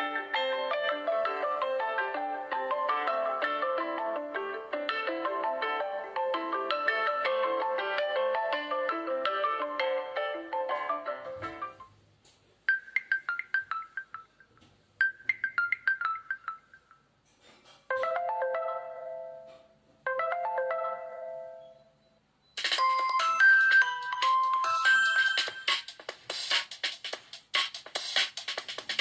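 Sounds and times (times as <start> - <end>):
electronic ringtone: 0.0 - 11.9, 12.7 - 17.0, 17.9 - 26.1.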